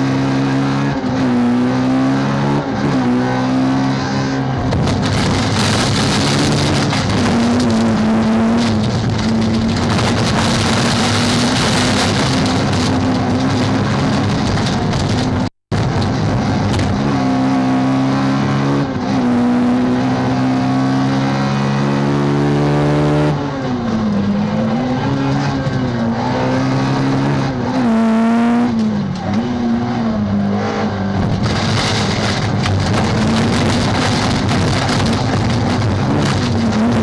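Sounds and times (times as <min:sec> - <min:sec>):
race car engine revving: 0:00.0 - 0:37.0
tyre and road noise: 0:00.0 - 0:37.0.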